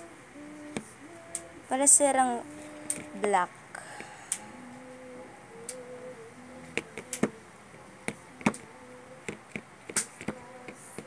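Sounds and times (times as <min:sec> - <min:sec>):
faint buzzing hum: 0:00.0 - 0:11.0.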